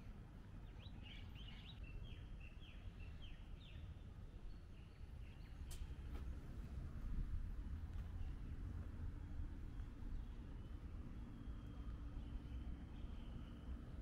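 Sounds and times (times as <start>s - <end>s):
faint low outdoor rumble: 0.0s - 14.0s.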